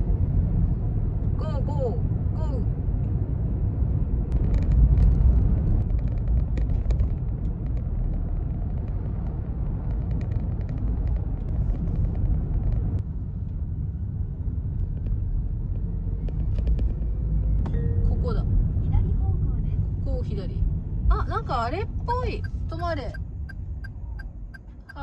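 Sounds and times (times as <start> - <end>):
car cabin road noise: 0.0 - 25.0.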